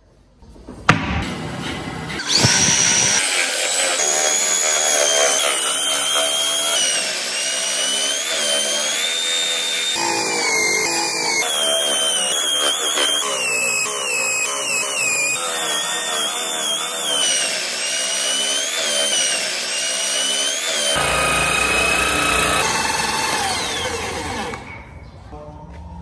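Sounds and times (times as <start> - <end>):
wood lathe whining: 2.1 - 24.9.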